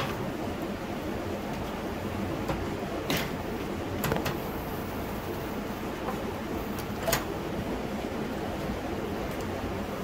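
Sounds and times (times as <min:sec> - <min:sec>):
workshop hum: 0:00.0 - 0:10.0.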